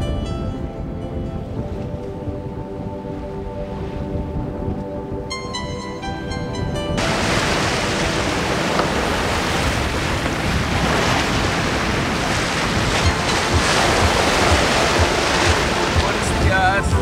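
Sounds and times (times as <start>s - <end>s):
waves and strong wind at sea: 0.0s - 17.0s
wind buffeting microphone: 0.0s - 17.0s.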